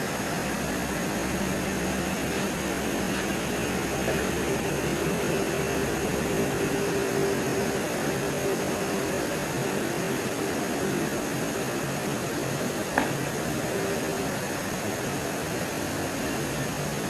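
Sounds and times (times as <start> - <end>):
forest ambience hiss: 0.0 - 17.0.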